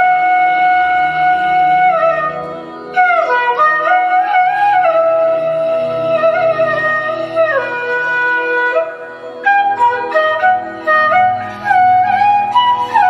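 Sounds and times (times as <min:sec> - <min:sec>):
flute melody: 0:00.0 - 0:13.0.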